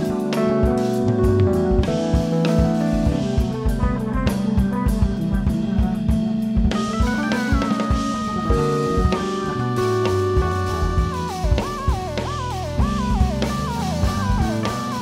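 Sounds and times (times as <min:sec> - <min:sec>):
drum kit: 0:00.0 - 0:15.0
electric bass guitar: 0:00.0 - 0:15.0
high keyboard line with pitch bends: 0:00.0 - 0:15.0
keyboards: 0:00.0 - 0:15.0.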